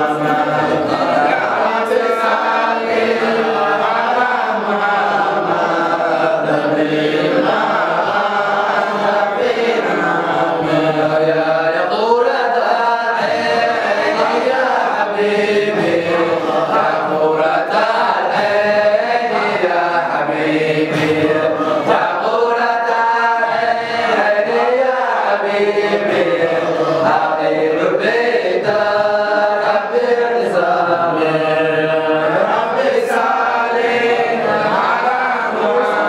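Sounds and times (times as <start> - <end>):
male voices chanting together: 0.0 - 36.0
man chanting into a microphone: 0.0 - 36.0.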